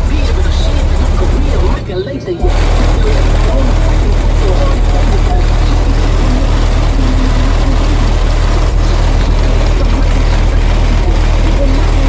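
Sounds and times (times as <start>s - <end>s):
deep bass pounding: 0.0s - 12.0s.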